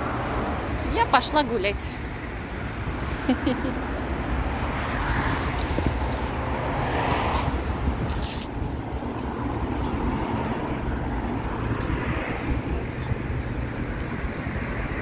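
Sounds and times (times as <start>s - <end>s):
low rumble of city traffic: 0.0s - 15.0s.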